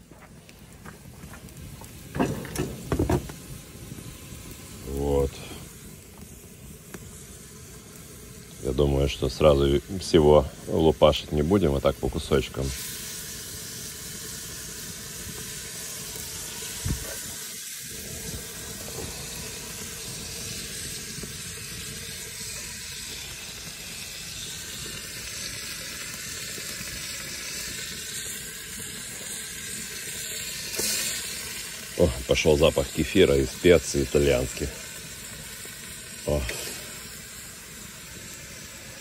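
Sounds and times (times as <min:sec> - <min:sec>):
meat sizzling in hot oil: 0:00.8 - 0:39.0.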